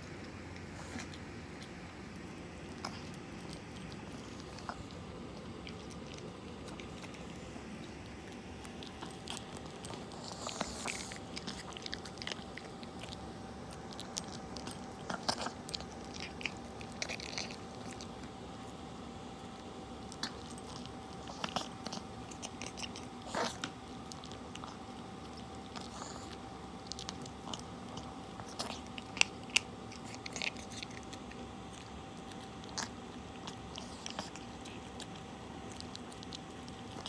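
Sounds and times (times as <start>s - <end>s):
dog chewing and crunching food: 0.0s - 37.0s.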